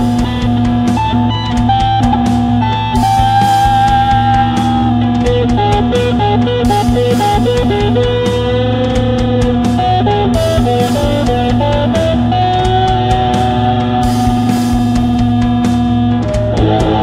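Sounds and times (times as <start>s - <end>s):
blues-rock music with guitar: 0.0s - 17.0s
drum kit beat: 0.0s - 17.0s.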